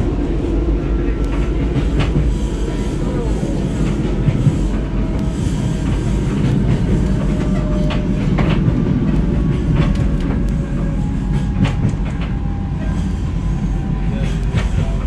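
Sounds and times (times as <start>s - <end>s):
train clicks and clacks: 0.0s - 15.0s
train rumbling: 0.0s - 15.0s.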